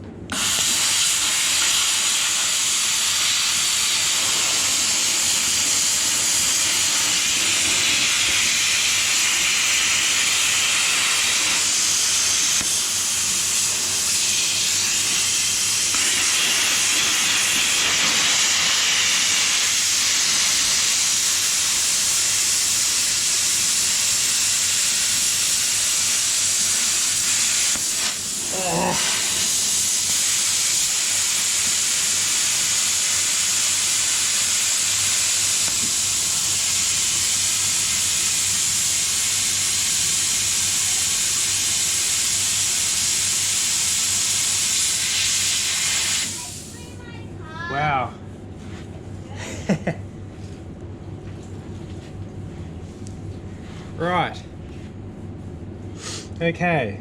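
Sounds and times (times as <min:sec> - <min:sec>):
plasma cutter hissing: 0:00.3 - 0:47.0.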